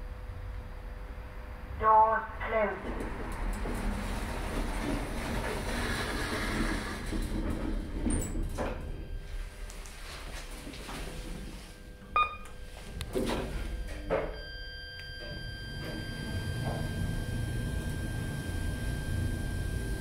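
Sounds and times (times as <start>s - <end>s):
lift rumbling and whining: 0.0s - 20.0s.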